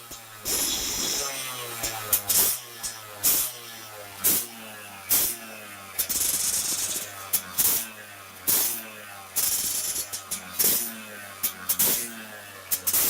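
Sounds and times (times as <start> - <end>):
motorcycle engine with loud bursts: 0.0 - 13.0.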